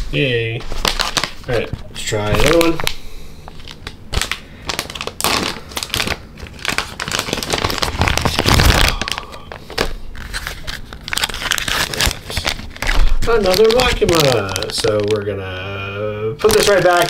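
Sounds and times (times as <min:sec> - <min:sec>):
plastic packaging crinkling: 0:00.6 - 0:15.4, 0:16.4 - 0:17.0.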